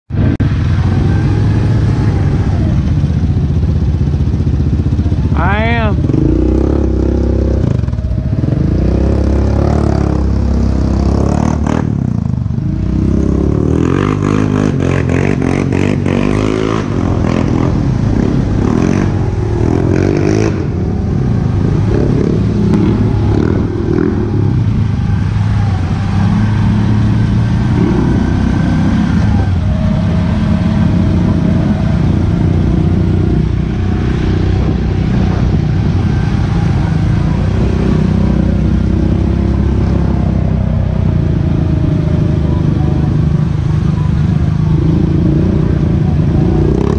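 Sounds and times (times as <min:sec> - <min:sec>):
atv engine running: 0:00.1 - 0:46.9.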